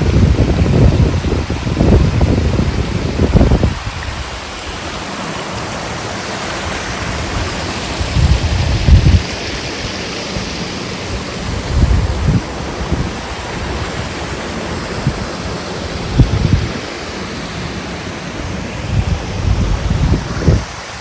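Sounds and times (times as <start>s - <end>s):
rushing water and wind hiss: 0.0s - 21.0s
wind buffeting microphone: 0.0s - 21.0s.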